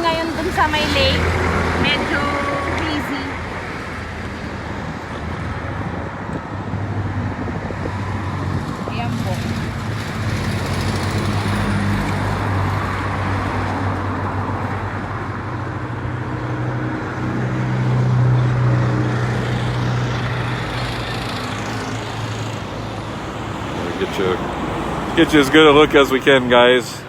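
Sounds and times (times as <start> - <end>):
wind buffeting microphone: 0.0 - 25.8
road traffic: 0.0 - 27.0
vehicle engine drone: 0.0 - 27.0.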